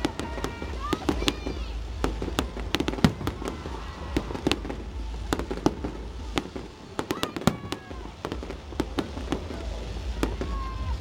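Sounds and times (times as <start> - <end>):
fireworks cracking and popping: 0.0 - 11.0
low rumble: 0.0 - 11.0.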